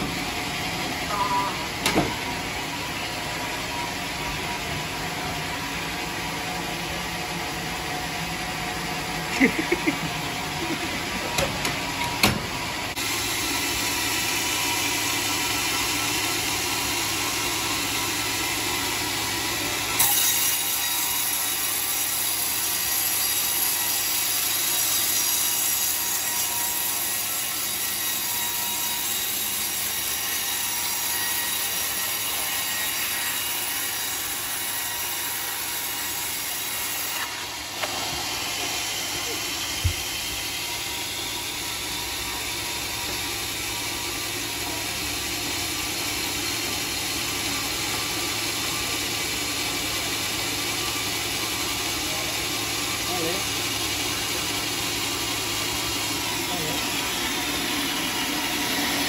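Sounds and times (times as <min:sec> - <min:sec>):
band saw cutting wood: 0:00.0 - 0:59.0.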